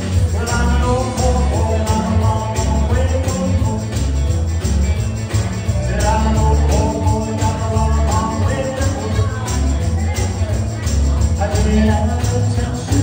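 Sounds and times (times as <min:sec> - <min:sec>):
electric guitar: 0:00.0 - 0:13.0
person singing: 0:00.0 - 0:13.0
repeating bass line: 0:00.0 - 0:13.0
steady drum beat: 0:00.0 - 0:13.0.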